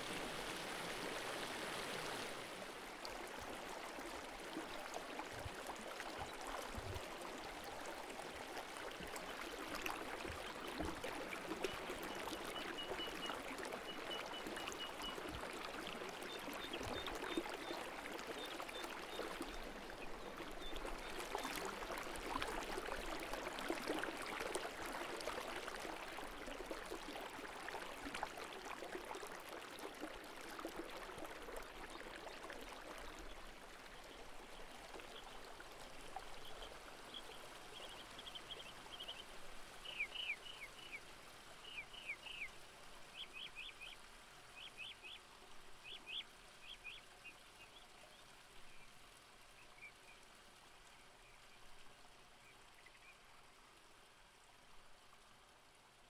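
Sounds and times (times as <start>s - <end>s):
water trickling over rocks: 0.0s - 56.0s.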